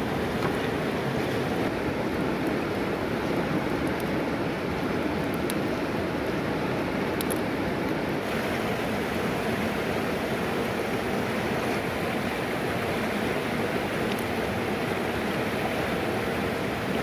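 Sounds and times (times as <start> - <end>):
river rapids rushing over rocks: 0.0 - 17.0.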